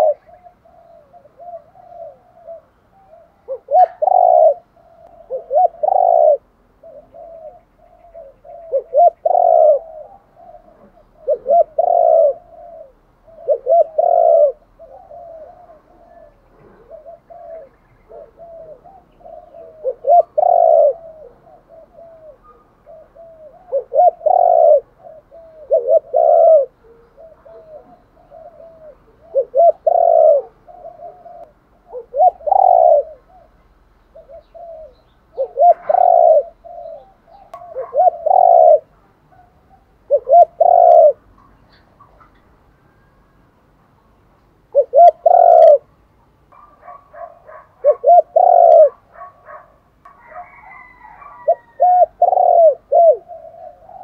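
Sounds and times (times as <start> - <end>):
dove cooing: 0.0 - 43.1, 44.7 - 45.9, 46.5 - 54.0.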